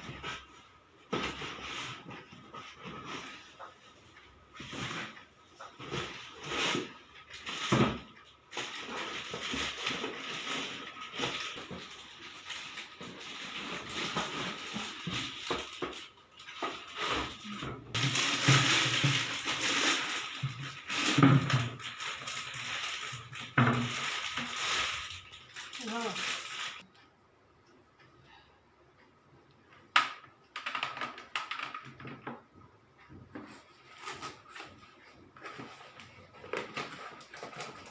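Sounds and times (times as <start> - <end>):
packaging rustling and crinkling: 0.0 - 26.8, 33.4 - 37.9.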